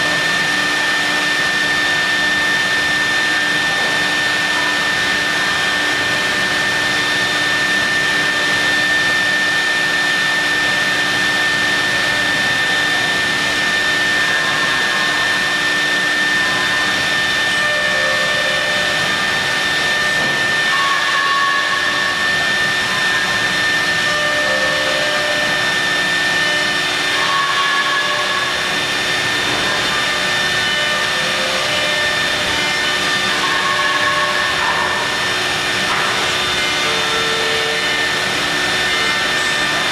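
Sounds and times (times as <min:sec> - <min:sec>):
milling machine whining: 0:00.0 - 0:39.9.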